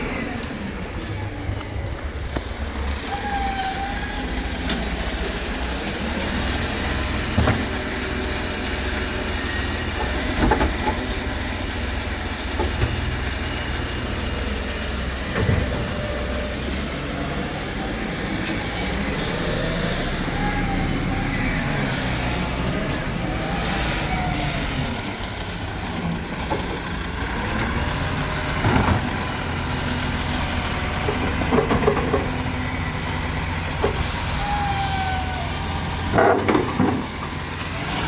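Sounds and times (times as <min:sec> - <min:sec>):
rubbish truck engine rumble: 0:00.0 - 0:38.0.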